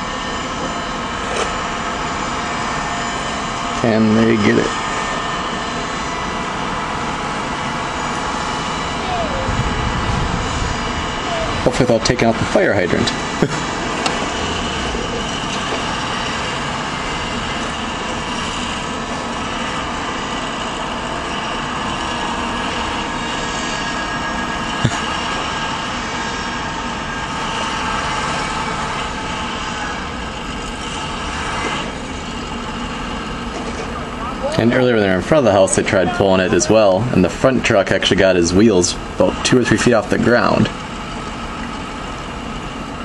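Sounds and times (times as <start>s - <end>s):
heavy truck engines running: 0.0s - 43.0s.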